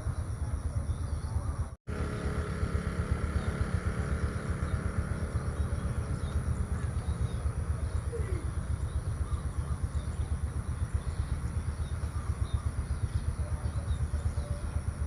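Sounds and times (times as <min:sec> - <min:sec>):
faint bird chirps: 0:00.0 - 0:15.0
flickering low rumble: 0:00.0 - 0:15.0.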